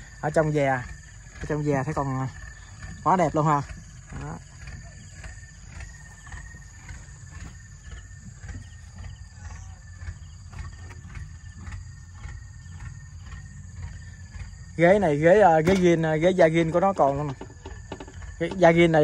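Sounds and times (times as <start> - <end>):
insect buzz: 0.0 - 19.0
low rumble: 0.0 - 19.0.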